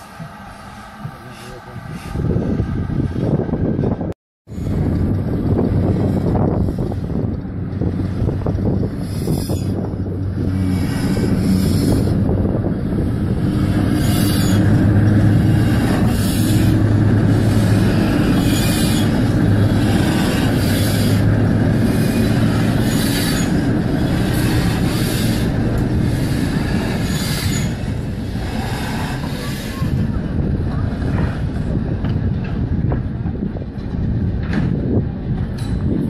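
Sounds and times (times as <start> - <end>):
steam train running: 0.0 - 36.0.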